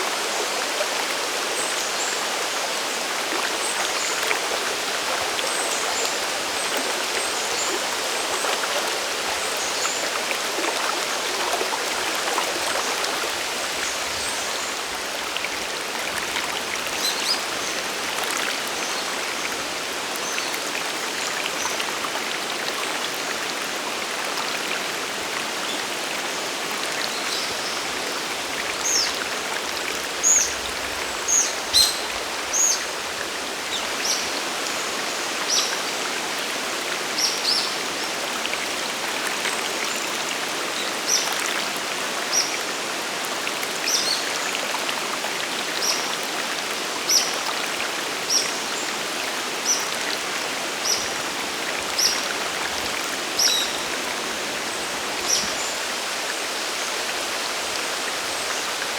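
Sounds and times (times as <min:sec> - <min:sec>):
waterfall and stream rushing: 0:00.0 - 0:58.9.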